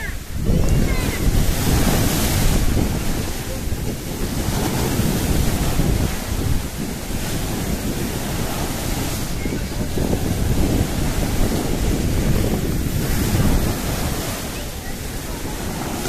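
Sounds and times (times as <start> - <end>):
surf breaking on shore: 0.0 - 16.0
waves crashing: 0.0 - 16.0
wind buffeting microphone: 0.0 - 16.0.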